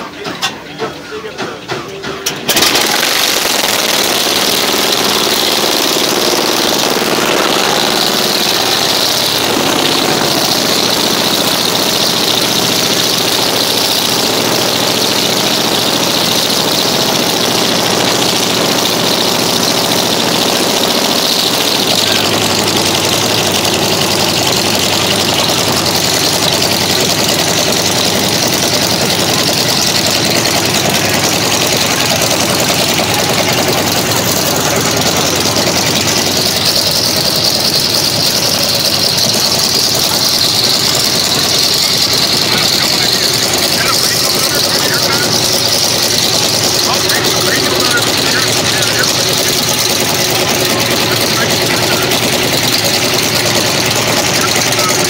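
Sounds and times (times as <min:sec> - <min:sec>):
radial engine idling: 0:00.0 - 0:55.0.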